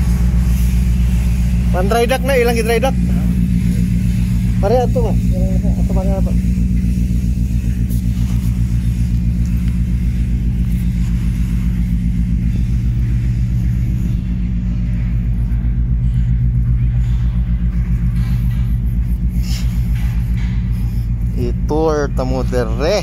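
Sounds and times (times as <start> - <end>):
heavy engine throbbing: 0.0 - 23.0.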